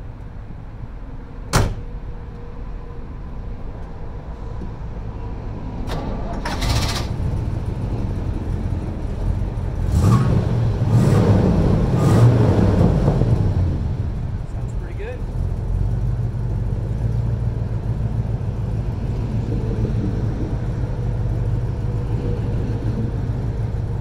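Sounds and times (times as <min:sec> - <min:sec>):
engine low rumble: 0:00.0 - 0:24.0.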